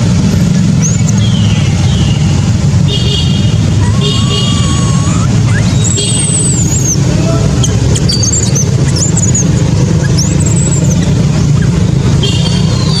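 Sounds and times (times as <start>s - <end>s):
baby monkey crying: 0.3s - 13.0s.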